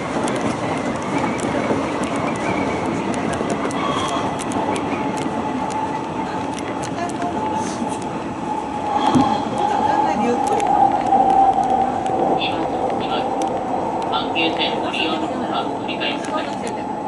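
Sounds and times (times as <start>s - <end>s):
train wheels rumbling on rail: 0.0s - 17.0s
track clicks: 0.2s - 8.2s, 8.8s - 16.9s.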